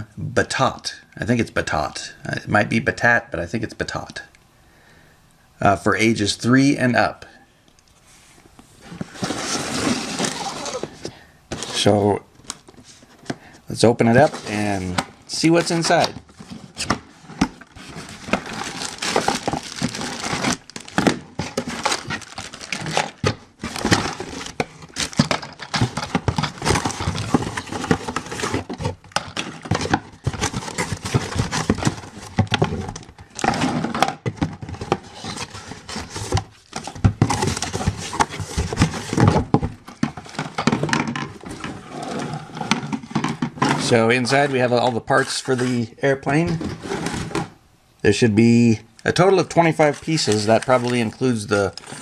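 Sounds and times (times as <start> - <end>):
plastic packaging rustling: 8.2 - 47.6, 49.0 - 52.0.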